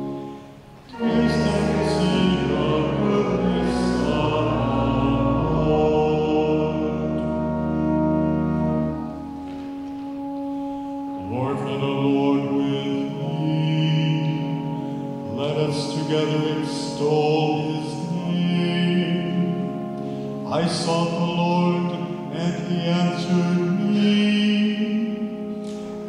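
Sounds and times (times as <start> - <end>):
church singing: 0.0 - 26.0
organ chords: 0.0 - 26.0.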